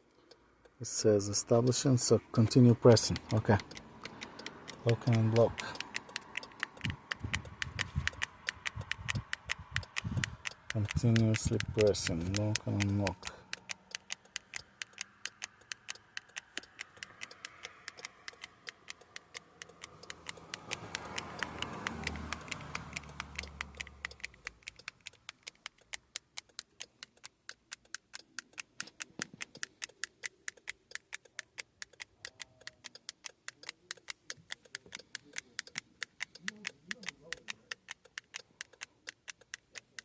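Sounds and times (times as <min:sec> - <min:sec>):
key fob buttons clicking: 0:02.4 - 0:40.0.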